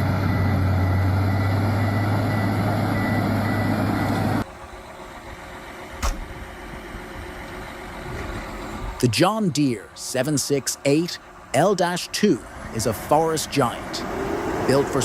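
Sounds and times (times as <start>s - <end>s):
heavy machine engine humming: 0.0s - 15.0s.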